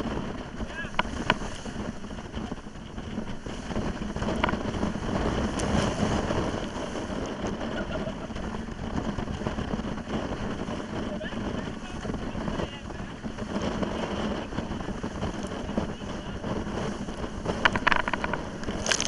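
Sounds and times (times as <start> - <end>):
water noise: 0.0 - 19.0
wind rushing over microphone: 0.0 - 19.0.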